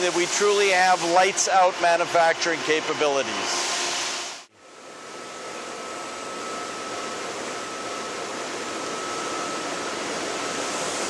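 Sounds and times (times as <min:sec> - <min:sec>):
shop machinery running: 0:00.0 - 0:04.5, 0:05.2 - 0:11.0
high steady whine: 0:00.0 - 0:11.0.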